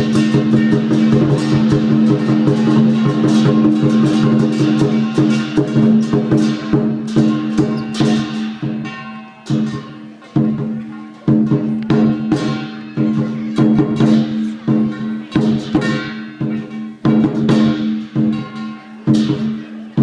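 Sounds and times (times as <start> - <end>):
heavy percussion strikes with crash: 0.0 - 20.0.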